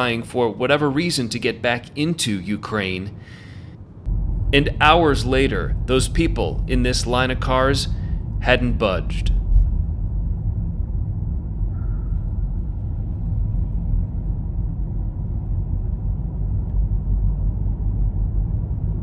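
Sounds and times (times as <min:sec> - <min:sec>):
car road and engine rumble: 0:03.0 - 0:19.0.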